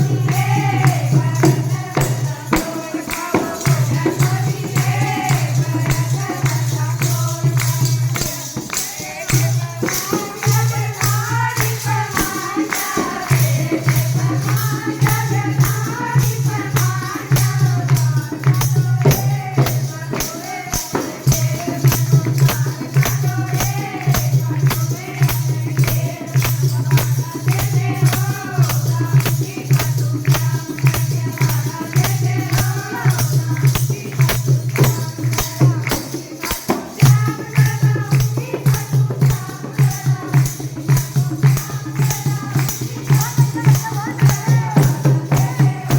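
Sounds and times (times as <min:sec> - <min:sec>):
person singing devotional song: 0:00.0 - 0:45.9
tambourine jingles: 0:00.0 - 0:45.9.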